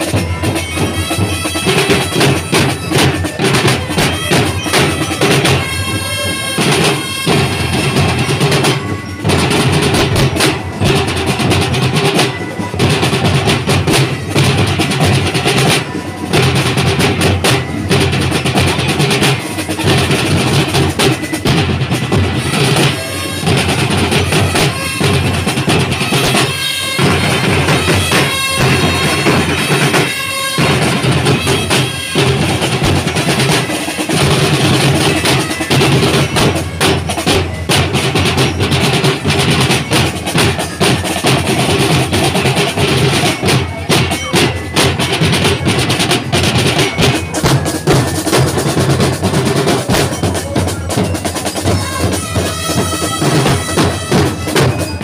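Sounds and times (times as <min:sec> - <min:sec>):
drum corps playing street cadence: 0:00.0 - 0:55.0.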